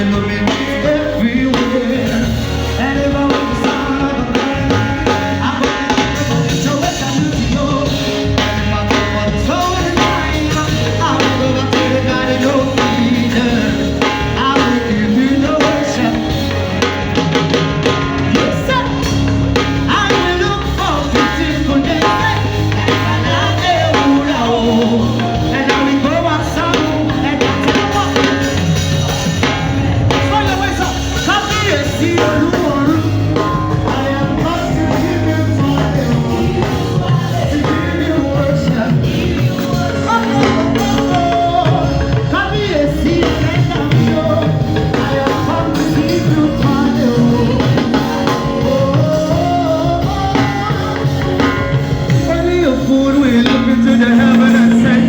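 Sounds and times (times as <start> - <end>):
gospel band with drum kit: 0.0 - 55.0
people singing: 0.0 - 55.0.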